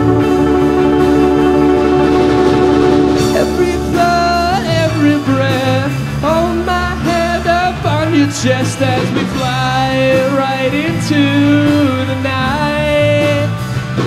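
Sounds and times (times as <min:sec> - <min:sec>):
person singing: 0:00.0 - 0:13.5
live rock band playing: 0:00.0 - 0:14.0.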